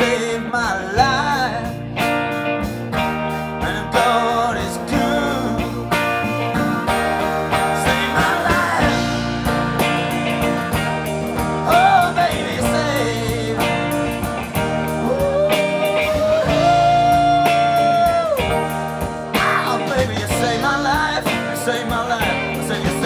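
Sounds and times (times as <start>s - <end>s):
electric guitar lead bends: 0.0s - 23.0s
live blues-rock band: 0.0s - 23.0s.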